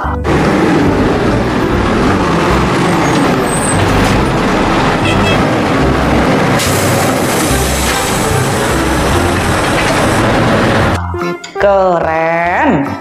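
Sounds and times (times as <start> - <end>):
large truck engine running: 0.0 - 11.0.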